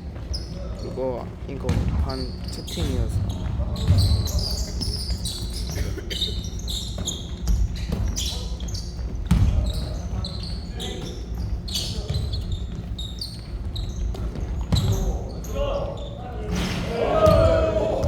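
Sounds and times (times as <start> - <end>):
basketball bouncing on court: 0.0 - 18.0
sneakers squeaking on floor: 0.0 - 18.0
players' voices: 0.4 - 6.5, 8.1 - 13.1, 14.0 - 18.0.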